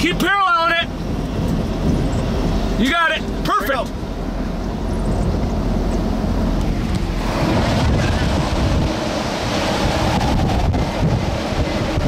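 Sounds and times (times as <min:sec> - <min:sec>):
moving vehicle rumble: 0:00.0 - 0:12.0
wind rushing over microphone: 0:00.0 - 0:12.0.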